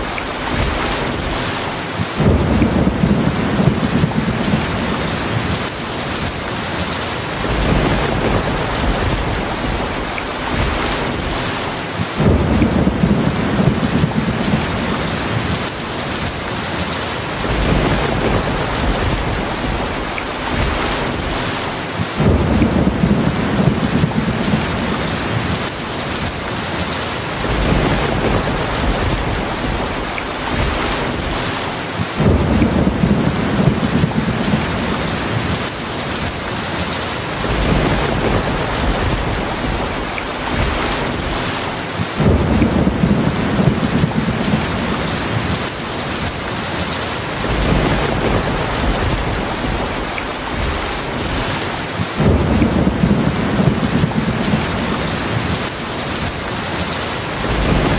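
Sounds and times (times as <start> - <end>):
heavy rain: 0.0 - 57.9
thunder rumbling: 0.0 - 57.9.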